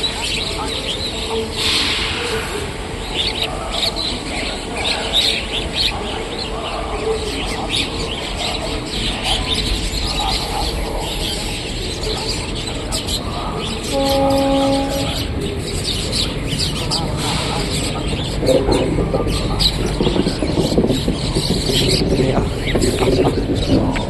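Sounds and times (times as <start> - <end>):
sparrows chirping: 0.0 - 2.1, 2.8 - 24.0.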